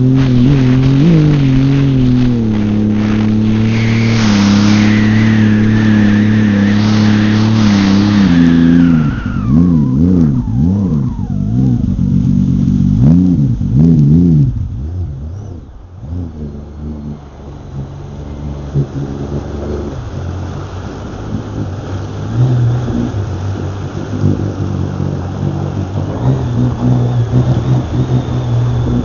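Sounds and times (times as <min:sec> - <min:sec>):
watercraft engine running: 0:00.0 - 0:29.0.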